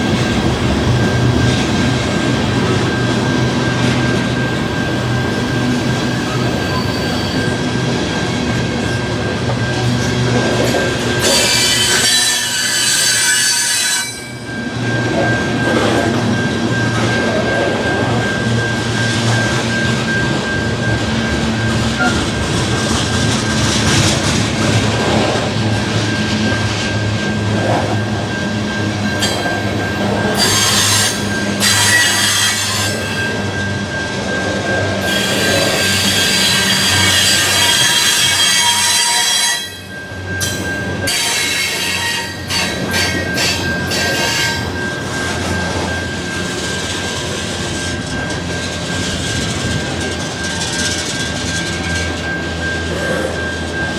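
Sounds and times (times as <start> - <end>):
diesel locomotive engine humming: 0.0 - 13.1, 13.7 - 53.9
train rumbling past: 0.0 - 53.9
metallic wheel squeal: 1.0 - 53.9.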